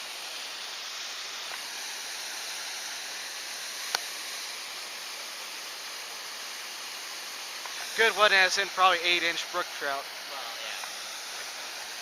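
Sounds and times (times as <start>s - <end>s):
flowing creek water: 0.0s - 12.0s.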